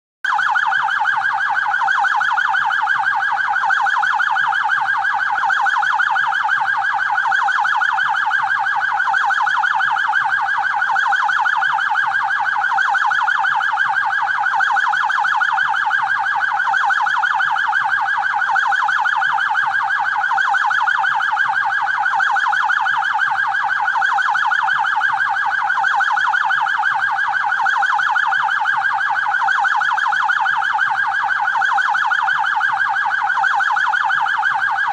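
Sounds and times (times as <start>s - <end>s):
police siren warbling: 0.3s - 34.9s.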